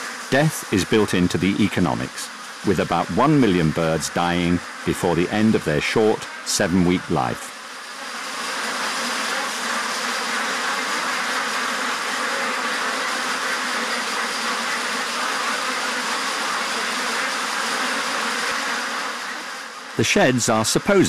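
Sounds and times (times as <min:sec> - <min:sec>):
many ducks calling: 0:00.0 - 0:07.5, 0:10.3 - 0:19.4, 0:20.0 - 0:21.0.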